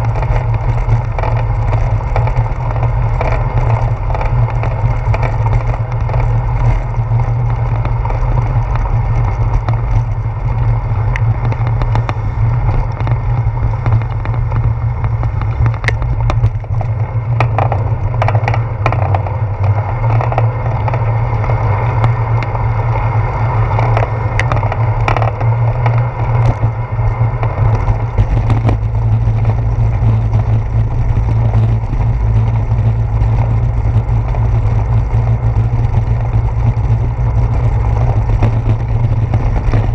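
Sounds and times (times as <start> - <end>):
bicycle road noise on wet pavement: 0.0 - 39.9
wind rumble: 0.0 - 39.9.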